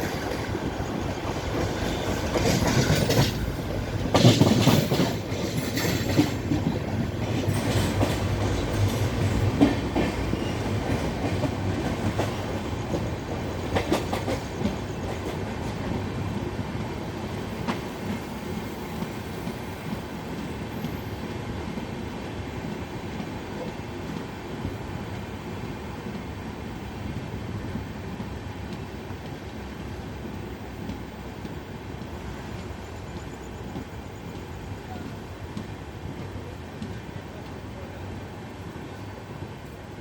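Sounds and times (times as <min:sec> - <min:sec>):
wheels clicking over rail joints: 0:00.0 - 0:39.8
train rumbling past: 0:00.0 - 0:40.0.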